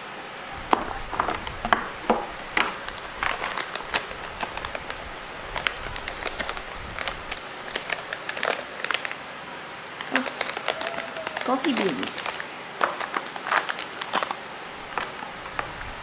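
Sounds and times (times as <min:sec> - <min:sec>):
foil bag crinkling: 0:00.8 - 0:09.2, 0:10.0 - 0:16.0.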